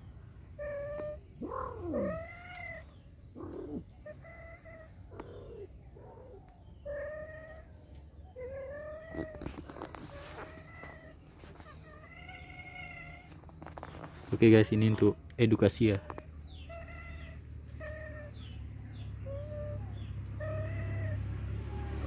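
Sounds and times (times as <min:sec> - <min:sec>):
cats yowling: 0:00.6 - 0:13.5, 0:14.4 - 0:22.0.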